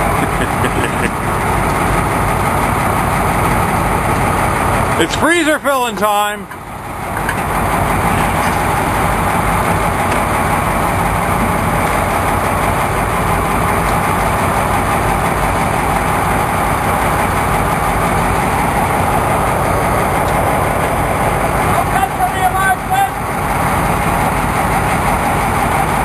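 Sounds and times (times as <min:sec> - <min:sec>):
boat engine humming: 0:00.0 - 0:26.0.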